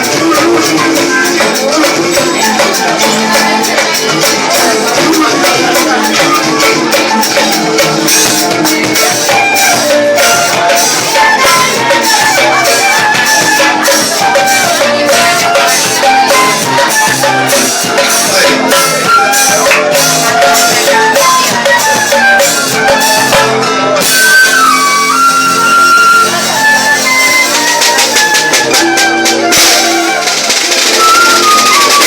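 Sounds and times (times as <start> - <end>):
fife melody: 0.0 - 32.0
hand percussion: 0.0 - 32.0.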